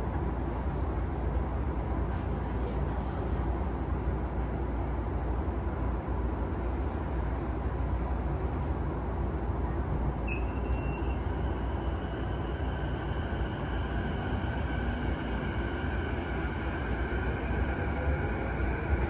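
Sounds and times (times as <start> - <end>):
train deep rumble: 0.0 - 19.0.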